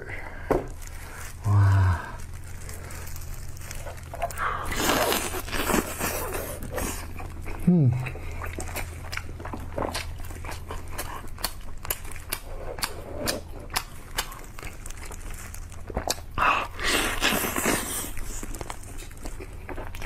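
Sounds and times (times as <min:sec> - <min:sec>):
wet chewing and mouth clicks: 0:03.3 - 0:20.0.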